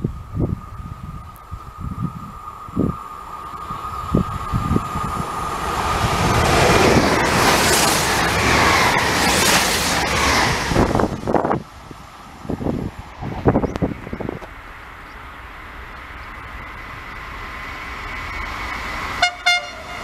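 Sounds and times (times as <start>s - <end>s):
wind buffeting microphone: 0.0s - 19.2s
train rushing past: 0.2s - 20.0s.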